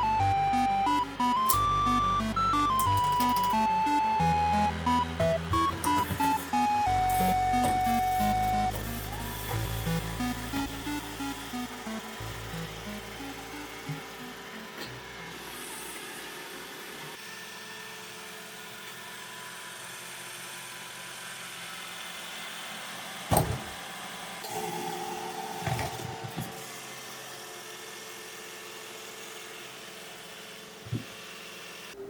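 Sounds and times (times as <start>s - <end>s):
robot vacuum cleaner whirring: 0.0s - 20.4s, 24.4s - 32.0s.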